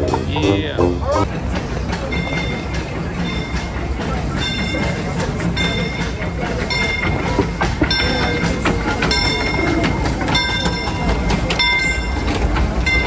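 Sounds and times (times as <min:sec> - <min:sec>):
steam locomotive rumbling: 0:00.0 - 0:13.0
locomotive bell ringing: 0:02.0 - 0:13.0.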